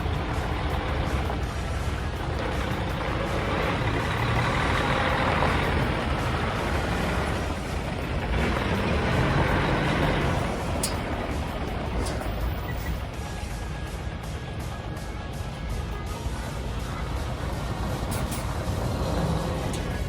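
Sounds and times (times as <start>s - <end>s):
truck diesel engines rumbling: 0.0s - 20.0s.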